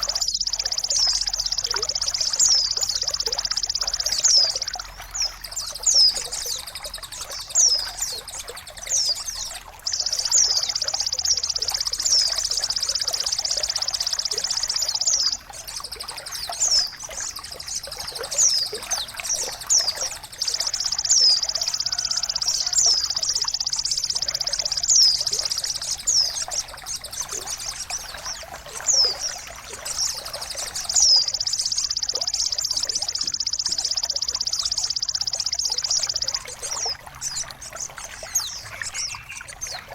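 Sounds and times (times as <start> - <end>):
small bird chirping: 0.0 - 39.9
trickling splashing water: 0.0 - 39.9.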